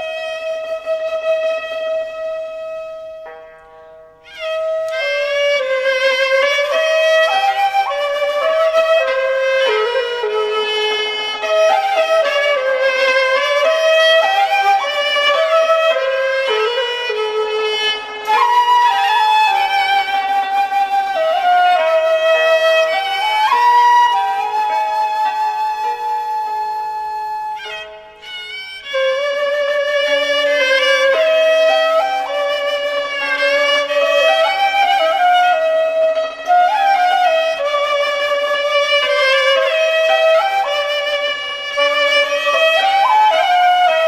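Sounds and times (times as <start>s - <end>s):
bamboo flute melody: 0.0s - 44.0s
bowed strings: 0.0s - 44.0s.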